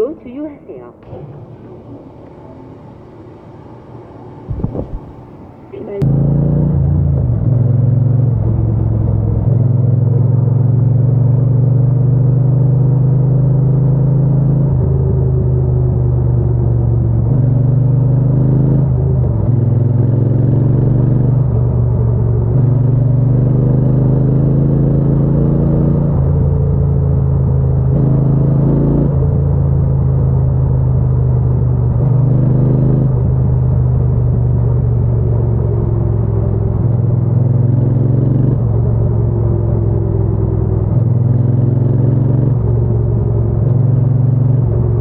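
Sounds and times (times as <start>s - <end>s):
motorcycle engine shifting gears: 4.4s - 45.0s.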